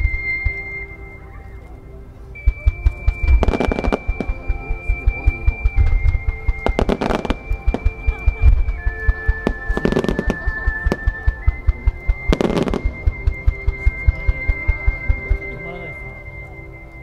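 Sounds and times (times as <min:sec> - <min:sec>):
fireworks bursts: 0:00.0 - 0:01.2, 0:02.4 - 0:16.2
melody of high held notes: 0:00.0 - 0:17.0.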